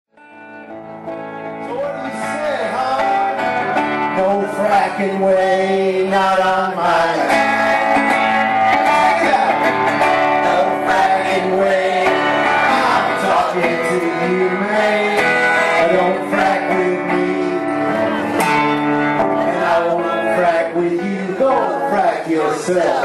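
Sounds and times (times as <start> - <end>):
guitar-led country song: 0.2 - 23.0.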